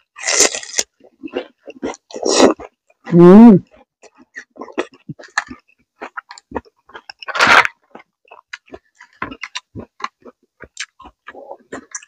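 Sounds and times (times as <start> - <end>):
chewing and crunching vegetables: 0.0 - 12.0.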